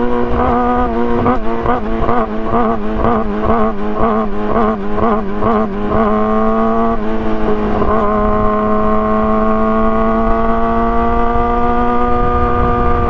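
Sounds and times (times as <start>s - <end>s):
low rumble of wind and road: 0.0s - 13.0s
motorcycle engine accelerating: 0.0s - 13.0s.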